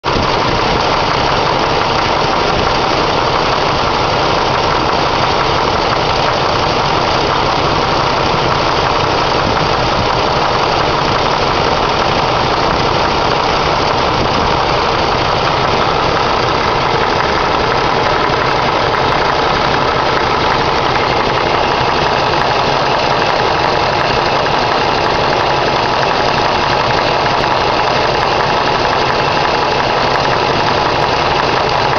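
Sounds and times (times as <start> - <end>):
engine knocking: 0.0 - 31.9
engine running: 0.0 - 31.9.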